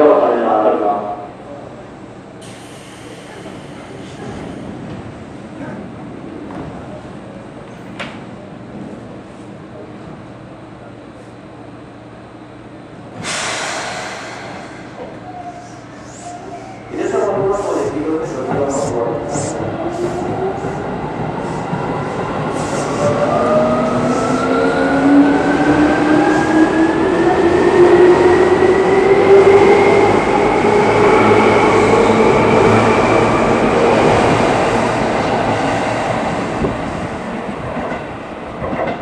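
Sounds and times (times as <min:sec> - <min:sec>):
train wheels rumbling and clattering: 0:02.2 - 0:10.5, 0:12.6 - 0:39.0.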